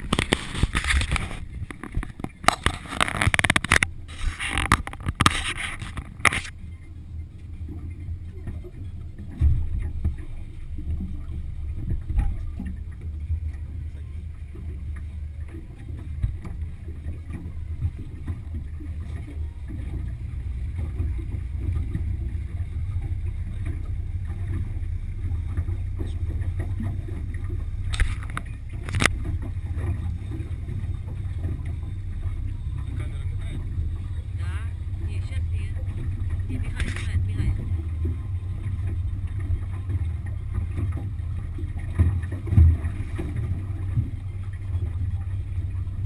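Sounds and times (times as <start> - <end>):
outboard engine rumbling: 0.0 - 46.0.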